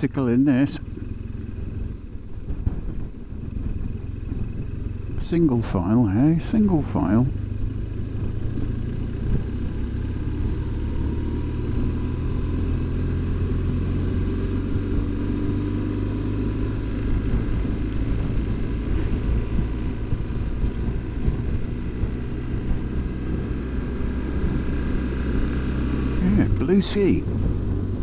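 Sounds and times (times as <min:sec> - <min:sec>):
motorcycle engine cruising: 0:00.0 - 0:28.0
road and wind noise: 0:00.0 - 0:28.0.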